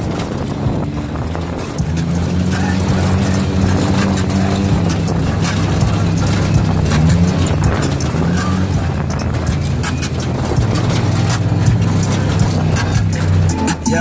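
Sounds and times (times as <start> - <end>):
knocks and rattles: 0.0 - 14.0
vehicle engine running: 0.0 - 14.0.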